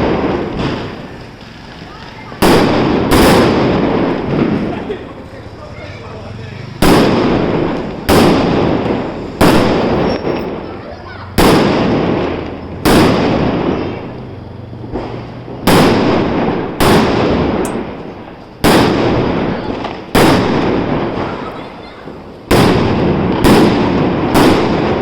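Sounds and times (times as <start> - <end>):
firecracker bangs with echo: 0.0 - 25.0.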